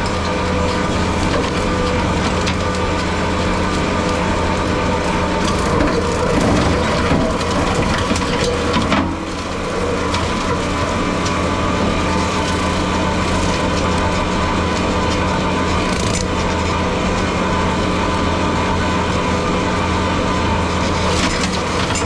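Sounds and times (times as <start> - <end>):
skid steer engine running: 0.0 - 22.0
wood crackling and splintering: 0.0 - 22.0.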